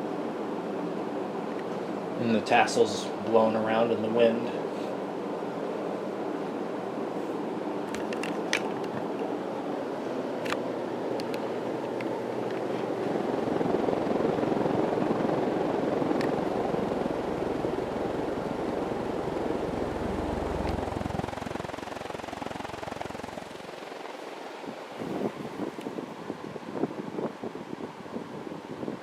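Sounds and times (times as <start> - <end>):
ceiling fan whooshing: 0.0 - 29.0.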